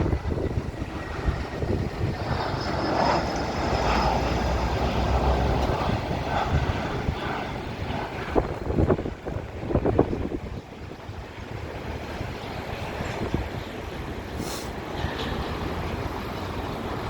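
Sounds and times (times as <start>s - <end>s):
jet airliner engine roar: 0.0s - 17.0s.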